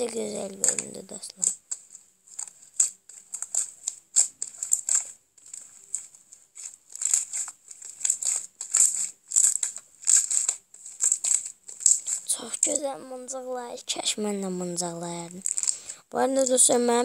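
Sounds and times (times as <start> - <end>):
slime squishing: 0.0 - 17.0.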